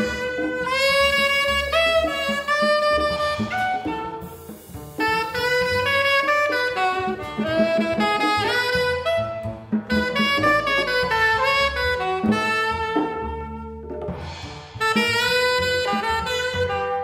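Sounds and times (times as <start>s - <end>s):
double bass notes: 0.0s - 17.0s
tenor saxophone jazz melody: 0.0s - 17.0s.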